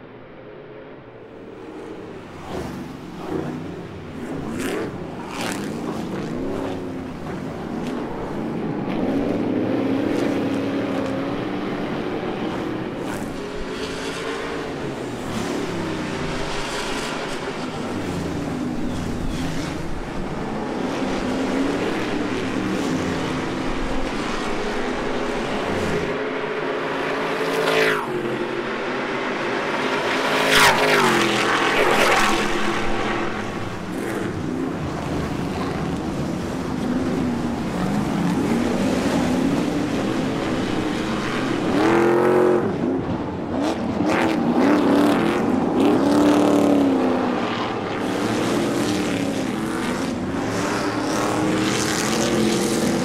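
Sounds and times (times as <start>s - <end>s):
truck engines racing and revving: 0.0s - 53.0s.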